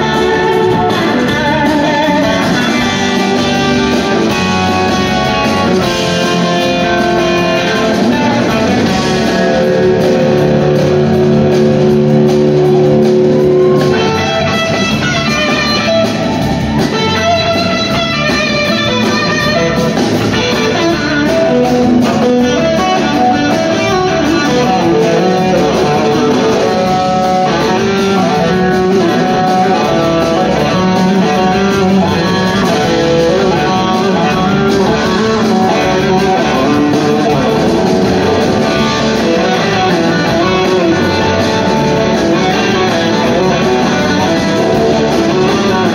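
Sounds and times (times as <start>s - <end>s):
bass guitar: 0.0s - 45.9s
drums: 0.0s - 45.9s
electric guitar lead lines: 0.0s - 45.9s.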